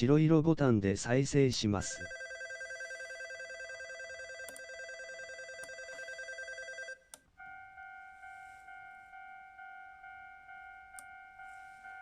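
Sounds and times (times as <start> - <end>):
departure bell ringing rapidly: 2.1 - 12.0
electronic chime tone: 2.1 - 12.0.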